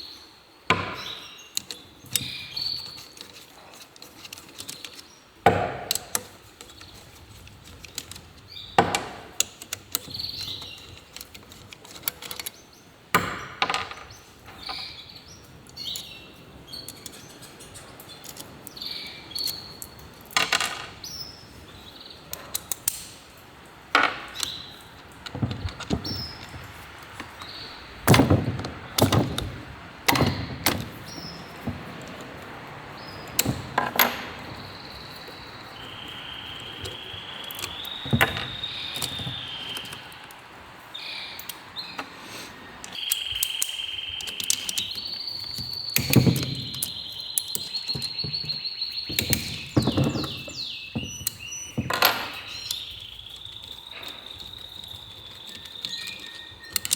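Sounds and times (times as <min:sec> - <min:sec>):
metal tools knocking and clinking: 0:00.7 - 0:23.3, 0:23.9 - 0:40.4, 0:44.2 - 0:53.0.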